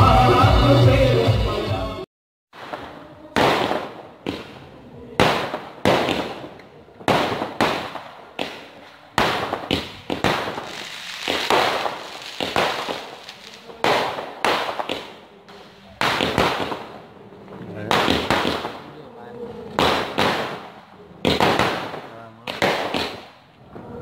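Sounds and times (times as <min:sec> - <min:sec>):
fireworks bangs: 0:02.5 - 0:24.0.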